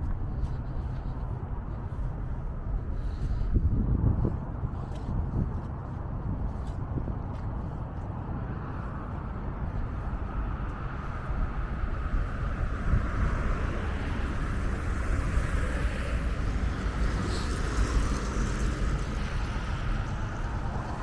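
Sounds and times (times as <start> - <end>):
road traffic noise: 0.0 - 21.0
wind rumble on microphone: 0.0 - 21.0.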